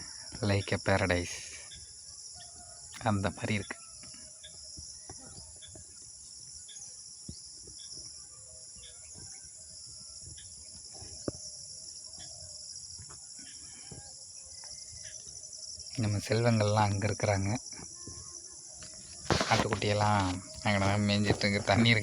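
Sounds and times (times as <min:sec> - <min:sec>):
bird chirps: 0:00.0 - 0:22.0
insects chirring: 0:00.0 - 0:22.0.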